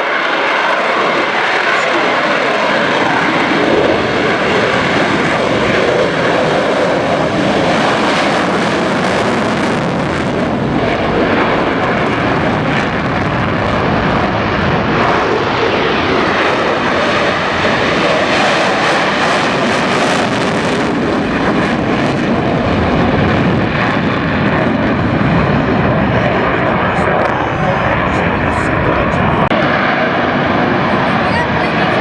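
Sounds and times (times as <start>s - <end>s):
military jet flypast: 0.0s - 32.0s.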